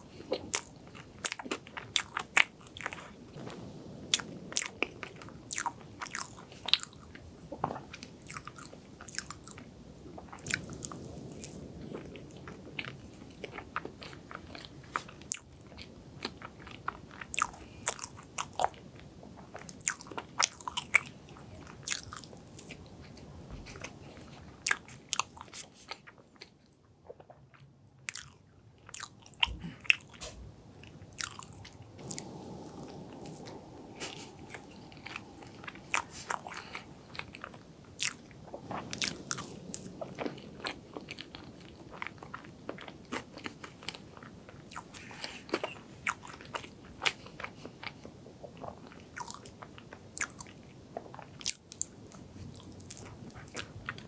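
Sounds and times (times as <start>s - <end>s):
chewing with wet mouth clicks: 0.0s - 3.5s, 4.1s - 54.0s.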